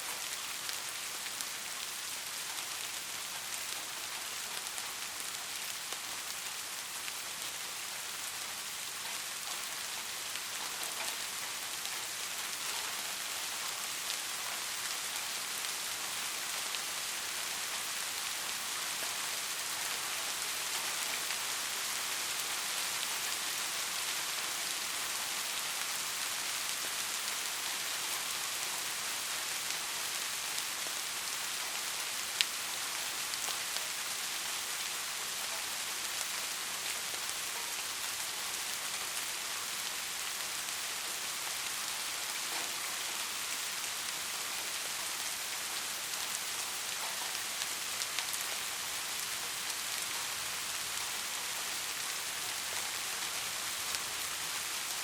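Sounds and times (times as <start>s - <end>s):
soft rain hissing: 0.0s - 55.0s.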